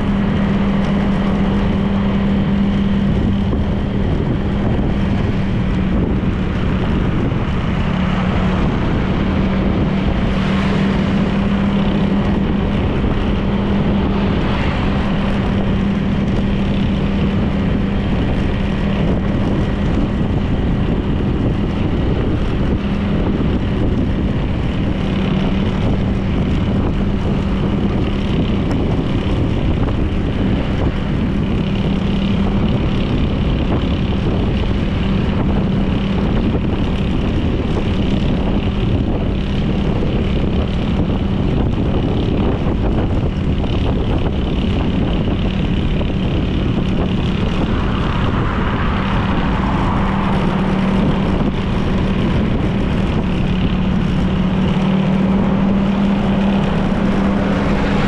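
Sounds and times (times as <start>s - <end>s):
road noise: 0.0s - 58.0s
rushing wind: 0.0s - 58.0s
scooter engine humming: 0.0s - 58.0s.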